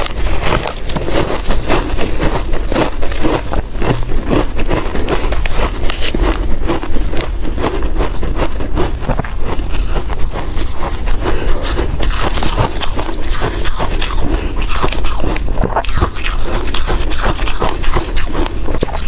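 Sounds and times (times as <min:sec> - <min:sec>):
ice crunching being chewed: 0:00.0 - 0:19.0.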